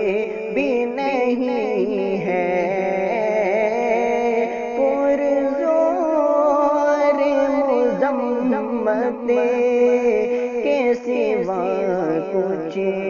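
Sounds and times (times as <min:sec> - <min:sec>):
person singing long wavering notes: 0:00.0 - 0:13.0.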